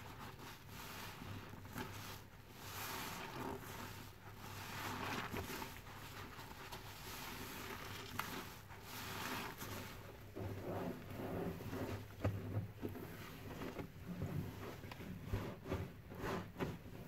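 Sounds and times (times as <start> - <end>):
soapy sponge squelching: 0.0 - 17.0.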